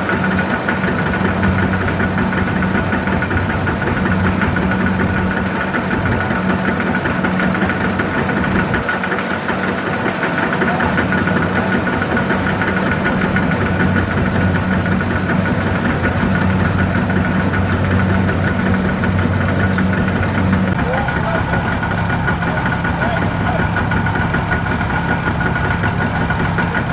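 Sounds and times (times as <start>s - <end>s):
diesel engine drone with whine: 0.0s - 26.9s.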